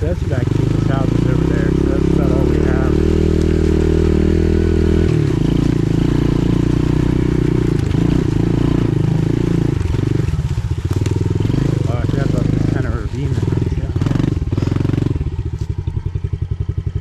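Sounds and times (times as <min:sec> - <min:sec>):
pit bike engine running: 0:00.0 - 0:17.0.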